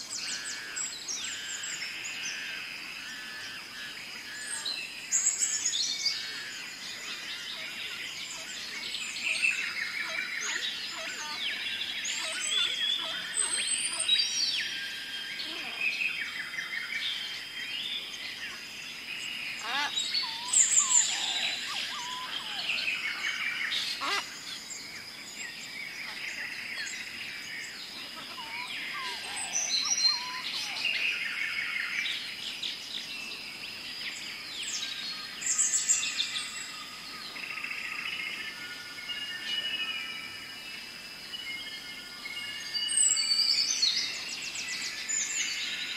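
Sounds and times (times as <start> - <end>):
birds chirping and calling: 0.0 - 33.4, 41.4 - 45.9.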